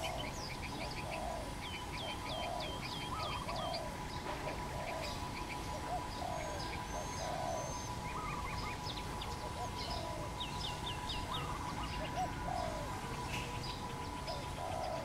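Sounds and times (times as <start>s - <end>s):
dove cooing: 0.0s - 15.0s
small birds chirping: 0.0s - 15.0s.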